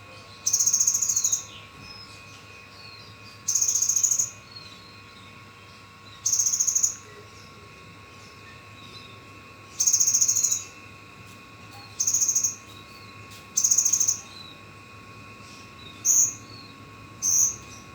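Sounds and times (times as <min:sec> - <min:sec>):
bird buzzy trills: 0:00.0 - 0:17.9.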